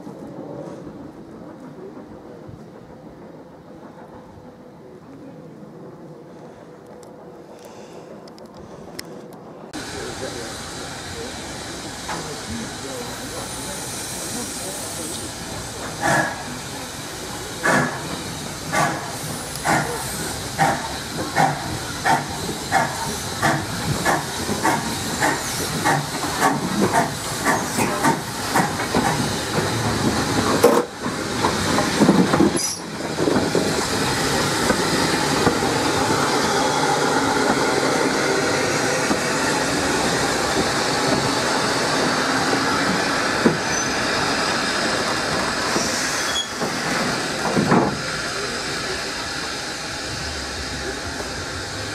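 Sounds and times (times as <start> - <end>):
train rolling rumble: 0.0 - 51.9
steam hiss: 9.8 - 51.9
steam locomotive exhaust beats: 9.8 - 51.9.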